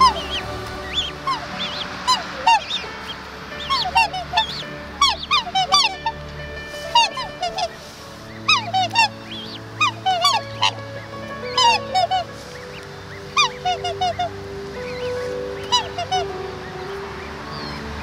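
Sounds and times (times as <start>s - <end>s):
held music tones: 0.0s - 18.0s
swans calling: 0.0s - 18.0s.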